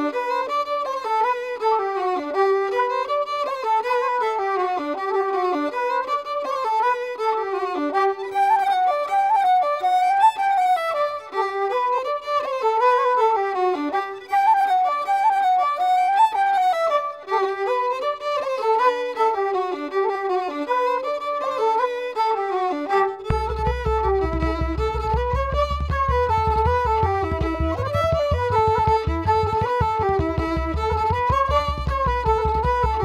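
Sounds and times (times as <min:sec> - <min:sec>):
fiddle melody: 0:00.0 - 0:33.0.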